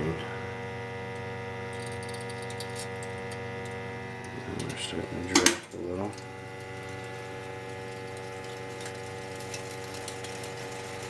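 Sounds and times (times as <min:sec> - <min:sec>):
gas boiler humming: 0:00.0 - 0:11.0.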